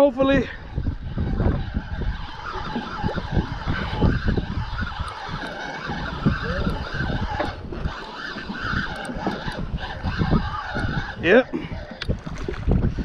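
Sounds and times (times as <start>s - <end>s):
choppy sea: 0.0s - 13.0s
wind buffeting microphone: 0.0s - 13.0s.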